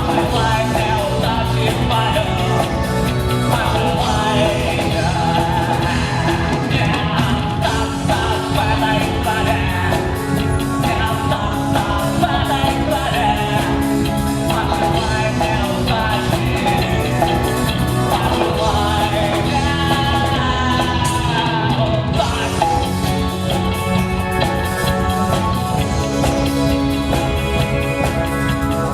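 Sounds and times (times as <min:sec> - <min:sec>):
rock band with singer: 0:00.0 - 0:28.9.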